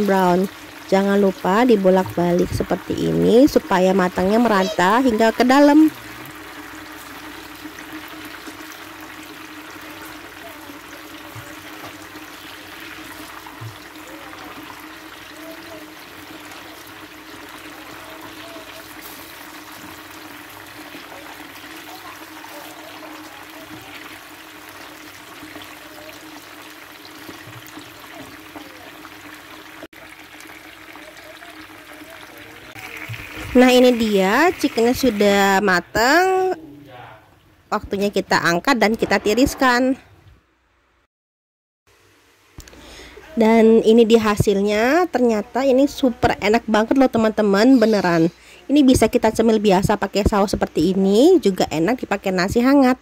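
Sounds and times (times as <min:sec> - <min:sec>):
chicken deep-frying in oil: 0:00.0 - 0:36.6, 0:41.9 - 0:53.0.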